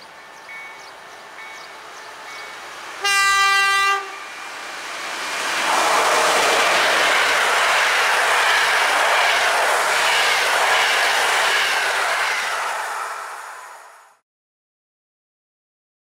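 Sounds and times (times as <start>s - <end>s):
train wheels rushing on rails: 0.0s - 14.2s.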